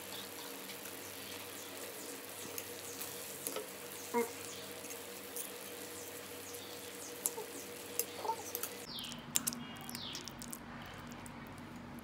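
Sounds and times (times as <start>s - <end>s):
birds chirping: 0.0s - 11.5s
soft sizzle: 0.0s - 12.0s.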